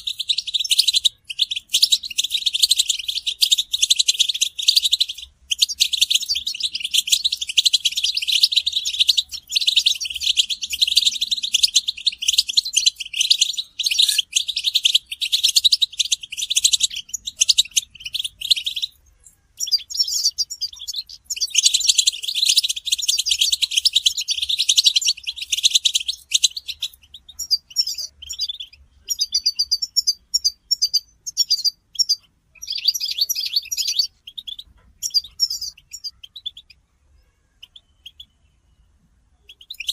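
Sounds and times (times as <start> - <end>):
goldfinches twittering: 0.0 - 19.0, 19.6 - 36.8.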